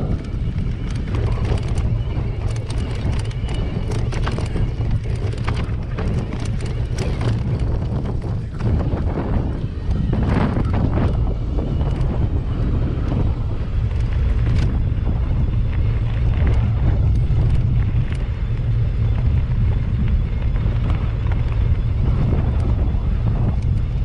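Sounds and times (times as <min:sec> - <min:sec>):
bike clicks and rattles: 0:00.0 - 0:24.0
bike rolling over dirt track: 0:00.0 - 0:24.0
wind rumble on microphone: 0:00.0 - 0:24.0.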